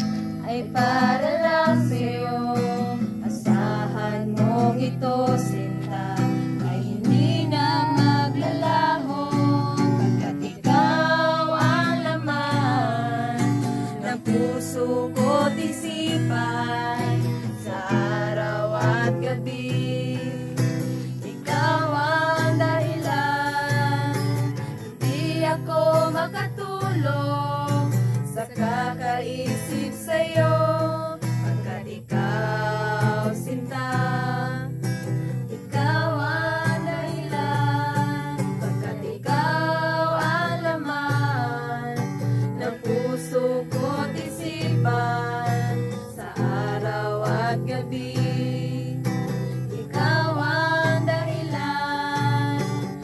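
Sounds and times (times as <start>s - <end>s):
strummed acoustic guitar: 0.0s - 53.0s
women singing together: 0.0s - 53.0s.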